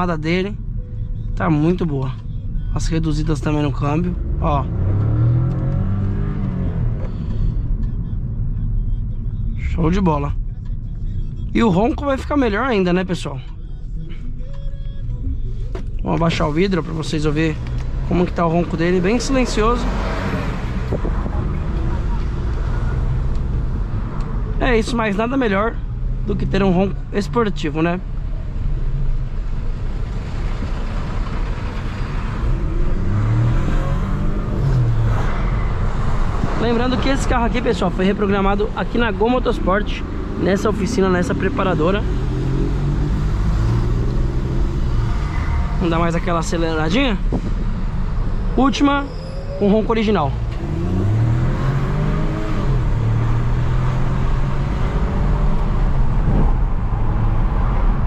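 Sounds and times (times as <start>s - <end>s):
road noise: 0.0s - 58.0s
car engine accelerating: 1.6s - 13.6s, 14.2s - 58.0s.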